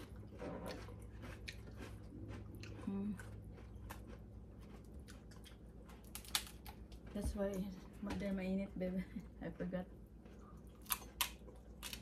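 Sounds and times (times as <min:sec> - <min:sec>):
chewing crunchy chips: 0:00.0 - 0:07.7, 0:10.0 - 0:12.0.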